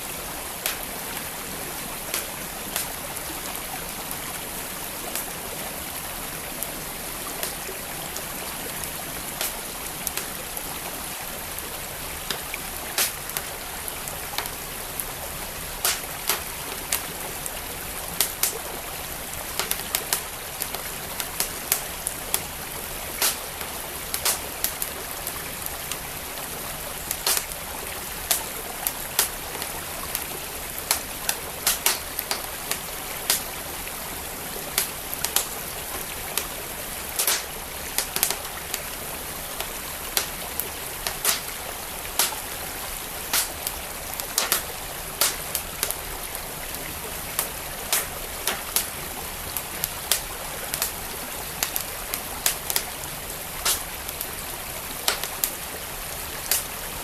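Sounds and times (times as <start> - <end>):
stream flowing: 0.0 - 57.0
wood fire crackling and popping: 0.5 - 3.6, 6.4 - 55.8, 56.4 - 56.8.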